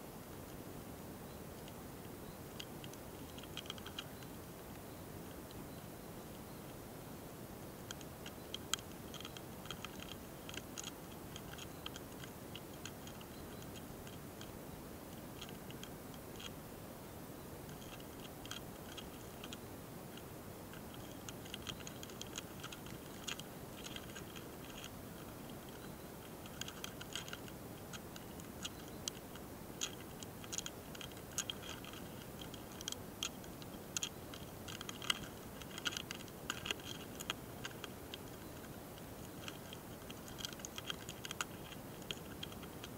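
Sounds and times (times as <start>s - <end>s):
steady low hiss: 0.0s - 42.9s
beetles clicking and scratching: 1.4s - 16.7s, 17.4s - 42.9s.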